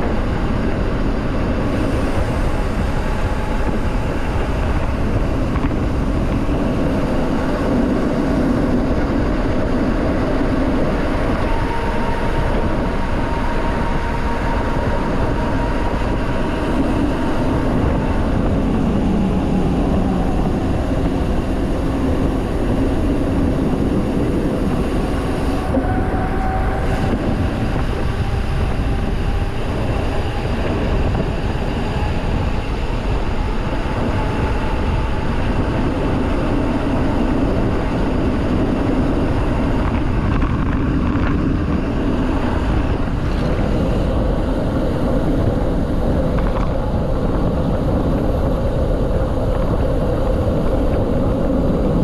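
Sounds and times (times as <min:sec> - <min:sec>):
bike tyre rumble: 0:00.0 - 0:52.0
wind on microphone: 0:00.0 - 0:52.0.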